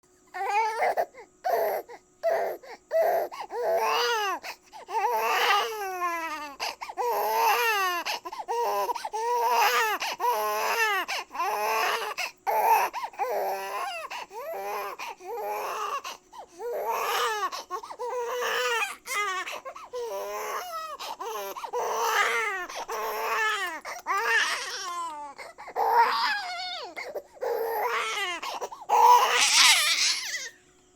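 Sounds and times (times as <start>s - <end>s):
baby crying: 0.4s - 30.6s.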